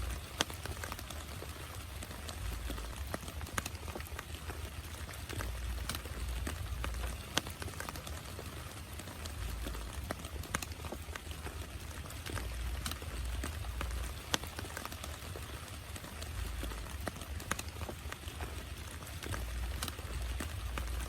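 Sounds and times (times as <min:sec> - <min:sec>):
heavy rain hiss: 0:00.0 - 0:21.0
raindrops striking surface: 0:00.0 - 0:21.0.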